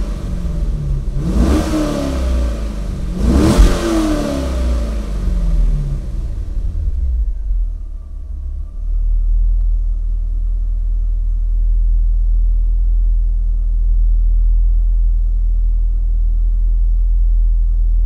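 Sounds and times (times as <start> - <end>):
car exhaust low rumble: 0.0 - 18.0.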